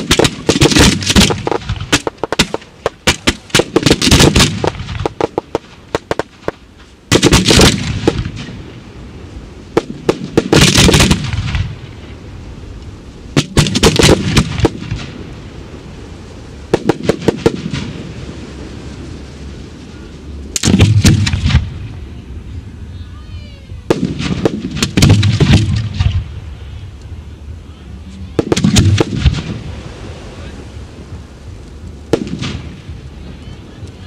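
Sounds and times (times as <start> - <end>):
firework bangs and crackles: 0.0 - 34.0
low rumble: 0.0 - 34.0.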